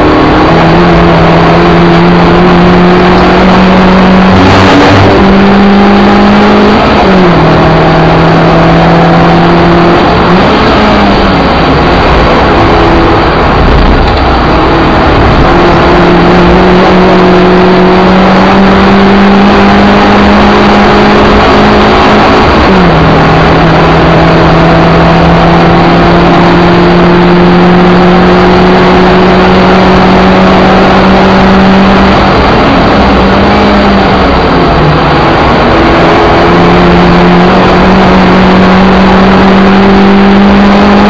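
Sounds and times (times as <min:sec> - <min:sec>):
car engine accelerating: 0:00.0 - 0:41.0
road and wind noise: 0:00.0 - 0:41.0.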